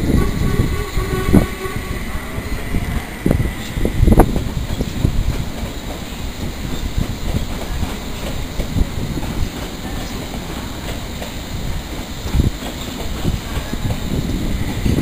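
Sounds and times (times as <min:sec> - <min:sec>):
train rumbling past: 0:00.0 - 0:15.0
wheels clacking over rail joints: 0:02.8 - 0:15.0.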